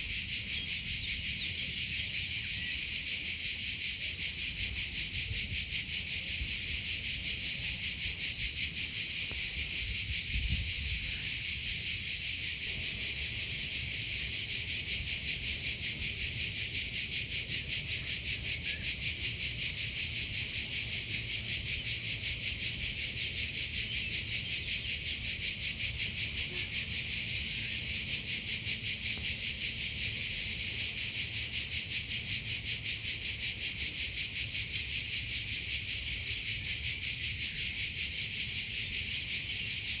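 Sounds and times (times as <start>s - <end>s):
cricket chirping: 0.0s - 40.0s.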